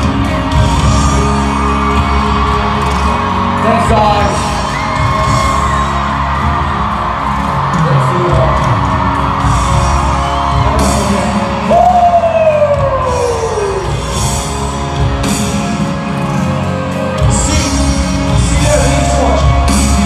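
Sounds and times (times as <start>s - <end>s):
amplified concert music: 0.0s - 20.0s
crowd yelling and whooping: 0.0s - 20.0s.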